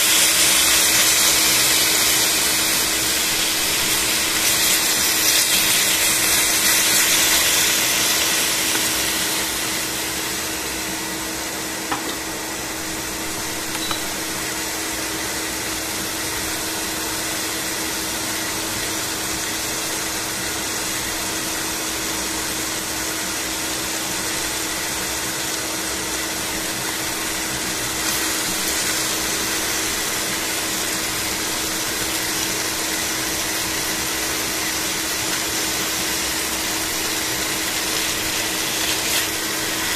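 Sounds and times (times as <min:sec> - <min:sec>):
chicken sizzling in frying pan: 0:00.0 - 0:39.9.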